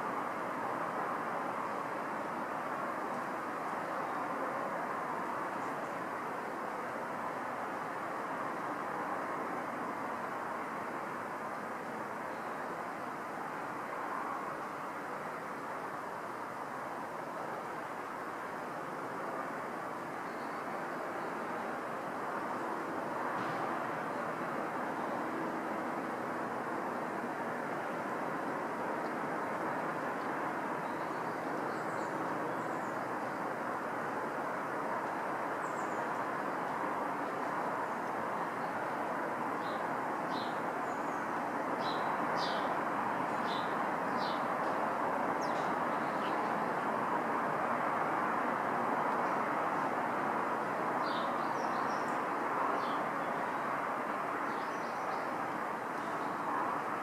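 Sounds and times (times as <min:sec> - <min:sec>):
distant city traffic: 0:00.0 - 0:57.0.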